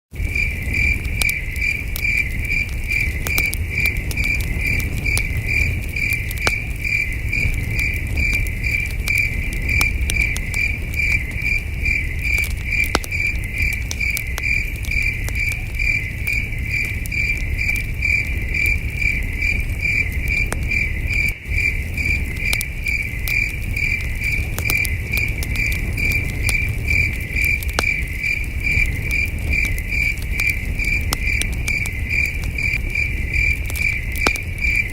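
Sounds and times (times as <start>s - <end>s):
campfire crackling: 0.1s - 34.9s
crickets chirping: 0.2s - 34.9s.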